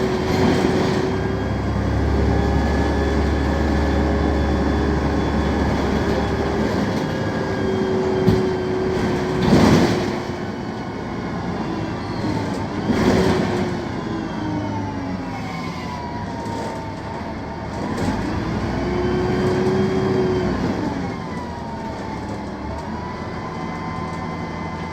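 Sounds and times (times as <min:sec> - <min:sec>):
diesel bus engine rumbling: 0:00.0 - 0:24.9.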